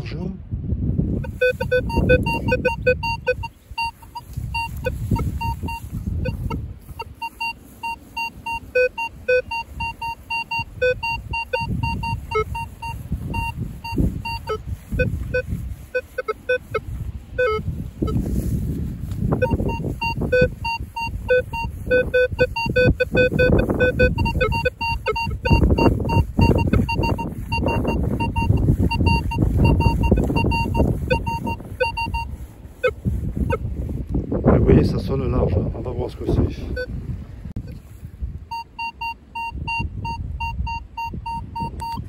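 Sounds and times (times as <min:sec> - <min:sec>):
metal detector beeping: 0:01.2 - 0:18.6, 0:19.3 - 0:33.6, 0:36.7 - 0:36.9, 0:38.5 - 0:42.0.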